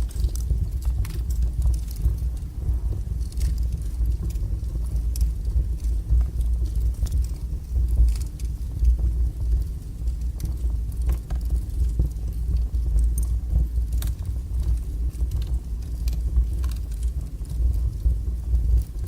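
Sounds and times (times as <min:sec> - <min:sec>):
fire roaring: 0:00.0 - 0:19.0
logs crackling and popping: 0:00.0 - 0:19.0.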